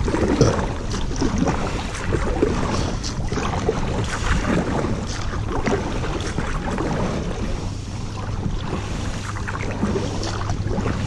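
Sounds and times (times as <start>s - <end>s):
paddle splashing through water: 0.0s - 11.0s
steady low rumble: 0.0s - 11.0s.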